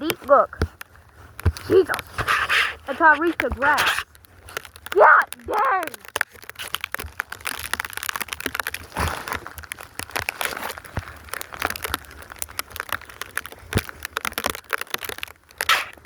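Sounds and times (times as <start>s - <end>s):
snow crunching by hand: 0.0s - 14.3s.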